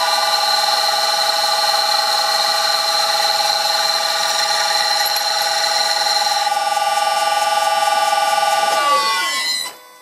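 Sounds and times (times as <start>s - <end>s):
lathe cutting metal squealing: 0.0s - 6.6s, 8.4s - 10.0s.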